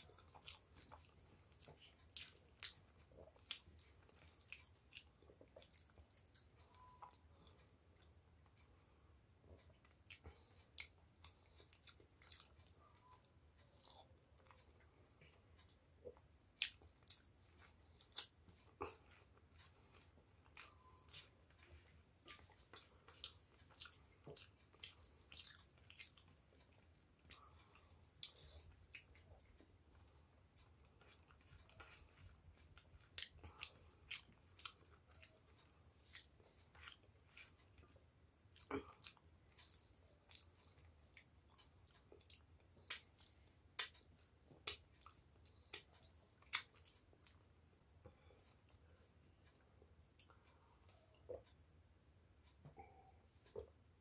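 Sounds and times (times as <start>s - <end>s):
person chewing and lip smacking: 0.0s - 47.6s, 48.2s - 51.6s.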